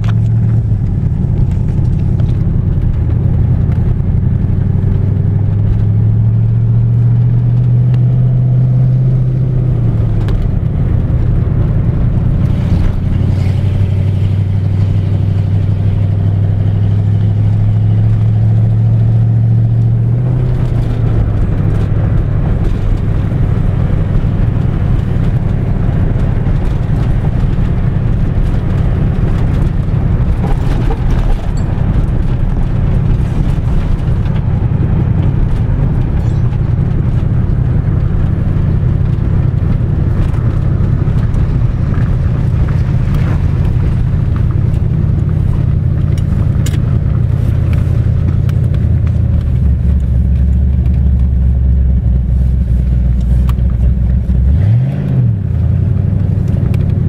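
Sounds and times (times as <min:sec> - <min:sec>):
car engine rumbling: 0:00.0 - 0:57.0
deep drone: 0:00.0 - 0:57.0.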